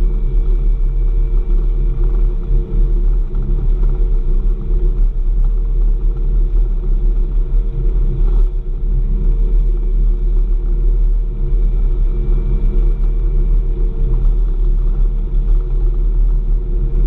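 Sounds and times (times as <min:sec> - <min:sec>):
grooming vehicle engine drone: 0:00.0 - 0:17.0.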